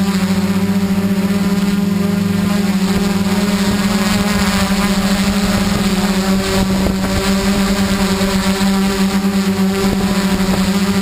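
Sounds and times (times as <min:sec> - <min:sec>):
quadcopter motors humming: 0:00.0 - 0:11.0
wind noise on microphone: 0:00.3 - 0:11.0.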